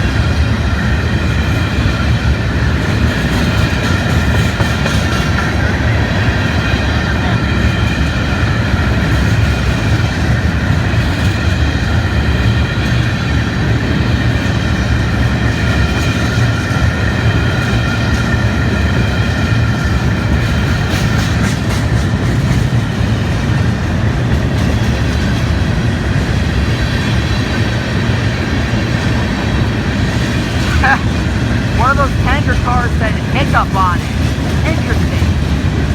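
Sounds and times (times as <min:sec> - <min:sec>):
freight train rumbling past: 0:00.0 - 0:35.9.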